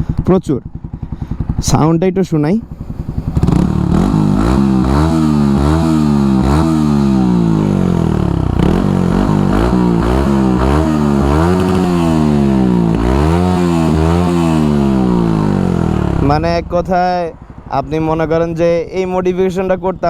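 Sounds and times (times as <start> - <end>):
motorcycle engine revving: 0.0 - 19.1.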